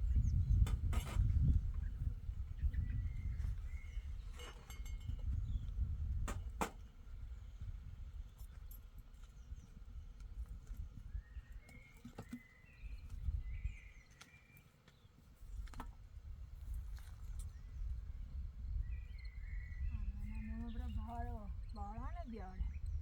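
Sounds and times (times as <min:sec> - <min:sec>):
wind rumbling on microphone: 0:00.0 - 0:14.1, 0:15.4 - 0:23.0.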